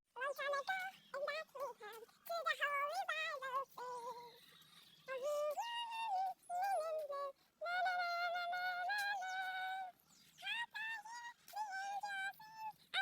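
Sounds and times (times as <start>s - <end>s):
high voice singing: 0.2s - 13.0s.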